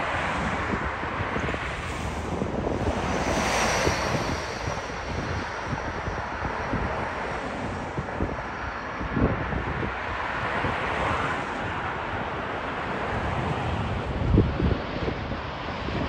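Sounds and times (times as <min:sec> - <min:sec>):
jet engines roaring overhead: 0:00.0 - 0:16.0
wind gusting on microphone: 0:00.0 - 0:16.0.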